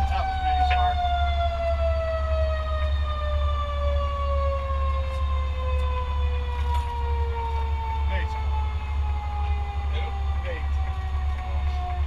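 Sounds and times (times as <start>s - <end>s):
diesel engine idling: 0.0s - 12.0s
mechanical siren winding down: 0.0s - 12.0s.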